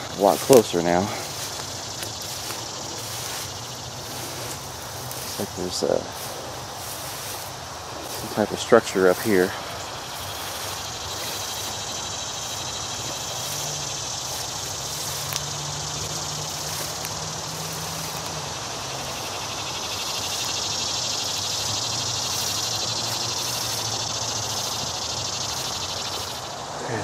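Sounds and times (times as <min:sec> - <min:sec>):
footsteps in rustling grass: 0:00.0 - 0:26.7
distant traffic drone: 0:00.0 - 0:27.0
insects buzzing and trilling: 0:00.0 - 0:27.0.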